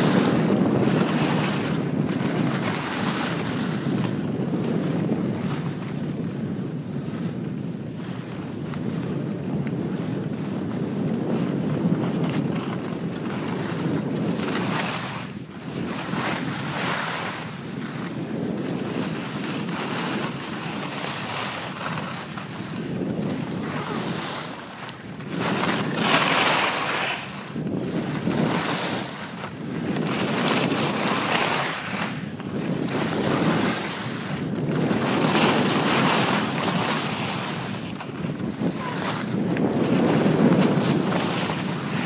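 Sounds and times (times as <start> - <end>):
skis sliding on snow: 0.0 - 42.0
wind rushing over microphone: 0.0 - 42.0.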